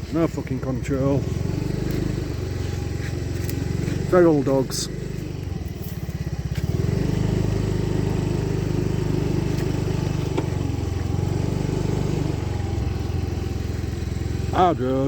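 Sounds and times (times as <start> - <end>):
motor scooter engine running: 0.0 - 15.0.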